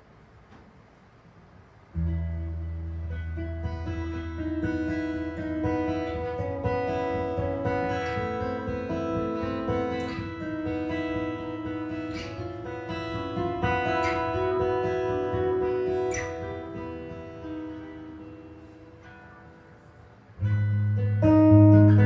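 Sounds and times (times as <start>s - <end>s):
jazz guitar playing: 2.0s - 22.0s.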